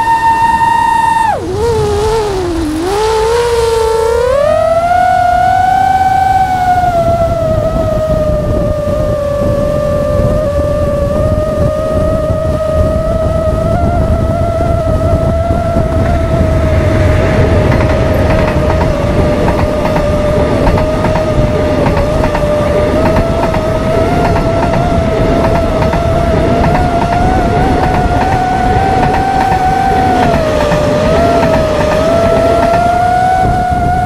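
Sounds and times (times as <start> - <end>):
drone motors whining: 0.0 - 34.0
passing train rumbling: 0.0 - 34.0.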